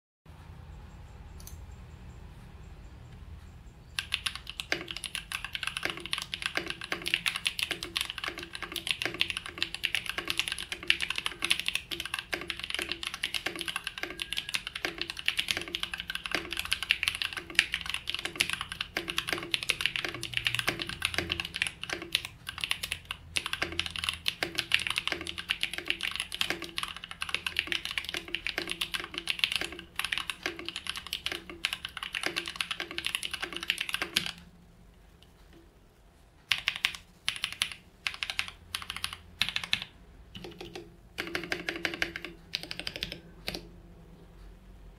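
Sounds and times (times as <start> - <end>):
fast mechanical keyboard typing: 4.0 - 34.5, 36.5 - 43.7.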